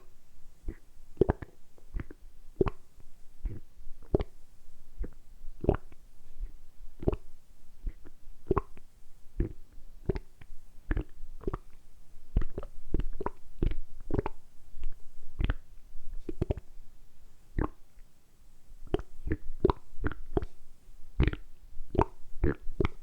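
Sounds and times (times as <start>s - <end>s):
stomach gurgling: 0.6s - 4.4s, 5.0s - 8.8s, 9.4s - 16.7s, 18.8s - 20.6s, 21.2s - 23.0s.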